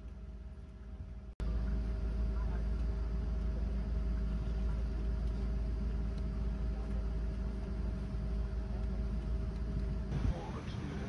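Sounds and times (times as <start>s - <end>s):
airliner cabin hum: 0.0s - 11.0s.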